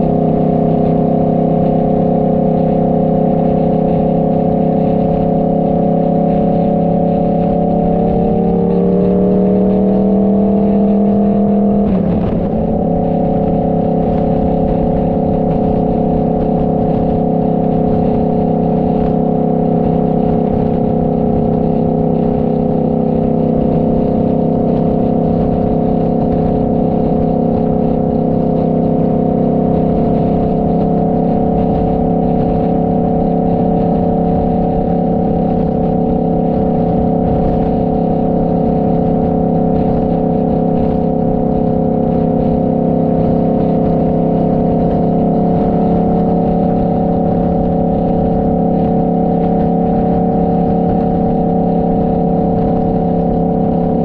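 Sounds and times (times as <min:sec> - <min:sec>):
motorcycle engine droning: 0:00.0 - 0:54.0.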